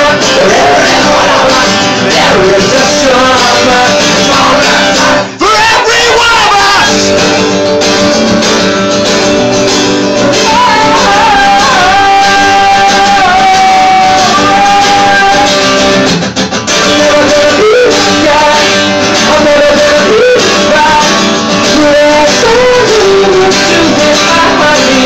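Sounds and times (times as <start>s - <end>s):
man singing: 0.0s - 7.4s, 10.1s - 16.0s, 16.7s - 25.0s
strummed guitar: 0.0s - 25.0s.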